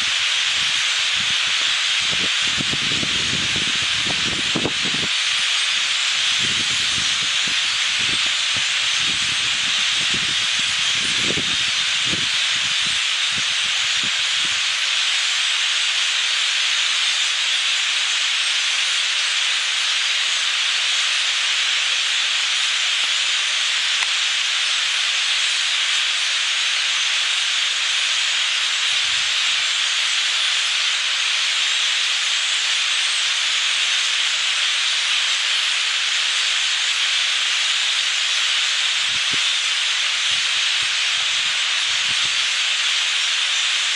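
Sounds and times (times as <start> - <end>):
flock of birds chattering: 0.0 - 43.9.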